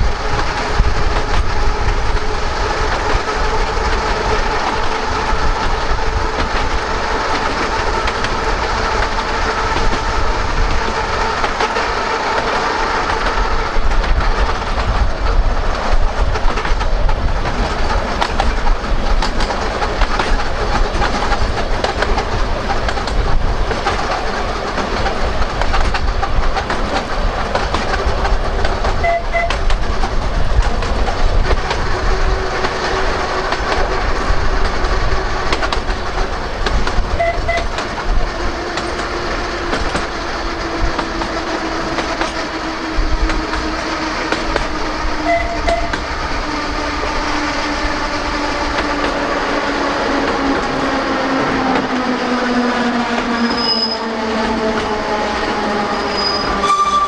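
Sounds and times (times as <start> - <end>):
wheels clicking over rails: 0.0 - 56.7
tram motor whine: 0.0 - 57.0.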